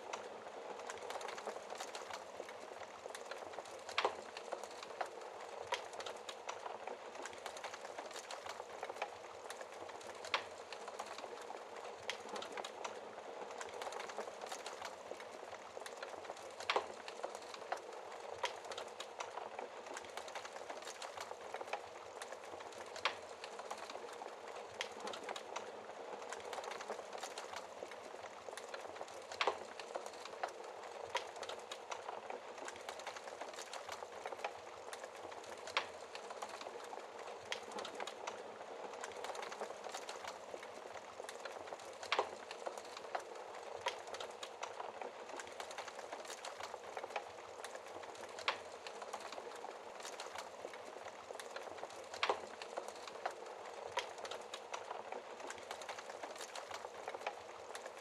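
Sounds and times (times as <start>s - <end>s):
burning wood crackling and popping: 0.0s - 58.0s.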